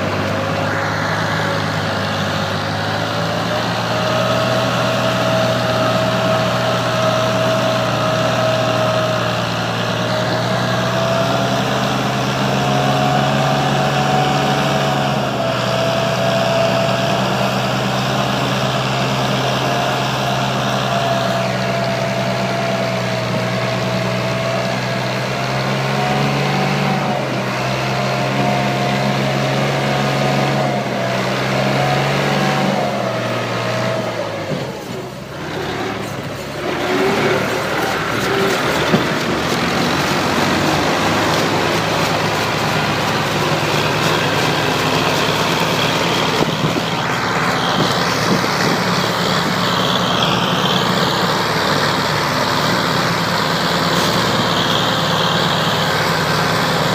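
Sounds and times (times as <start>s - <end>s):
tractor engine droning: 0.0s - 56.9s.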